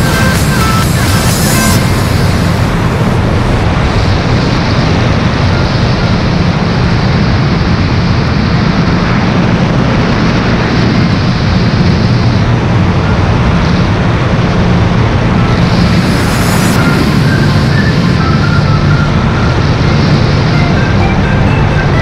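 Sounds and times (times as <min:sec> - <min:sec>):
car engine drone: 0:00.0 - 0:22.0
rushing wind: 0:00.0 - 0:22.0.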